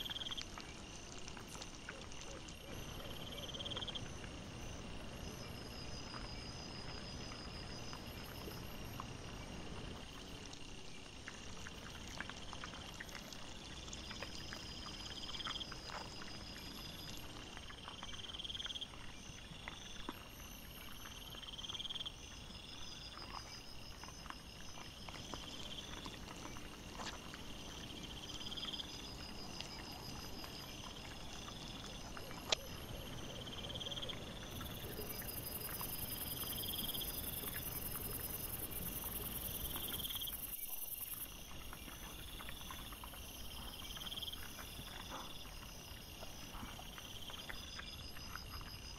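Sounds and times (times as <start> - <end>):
high insect trills: 0.0 - 48.9
insect rising chirp: 0.0 - 48.9.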